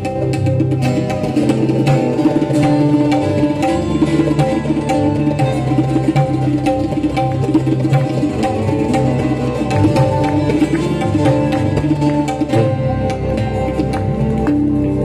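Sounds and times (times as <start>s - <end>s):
stringed instrument melody: 0.0s - 15.0s
tabla rhythm: 0.0s - 15.0s.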